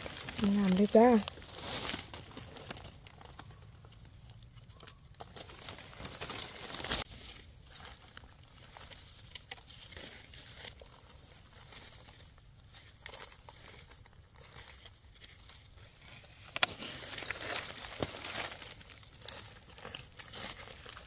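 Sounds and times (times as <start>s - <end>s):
dry leaves rustling and crackling: 0.0s - 21.0s.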